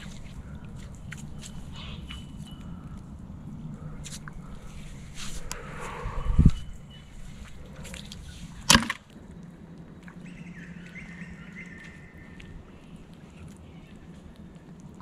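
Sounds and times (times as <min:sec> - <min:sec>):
outdoor background: 0:00.0 - 0:15.0.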